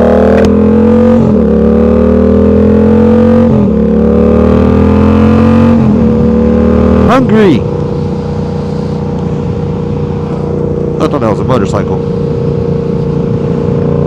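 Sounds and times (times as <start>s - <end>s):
motorcycle engine upshifting: 0.0s - 14.0s.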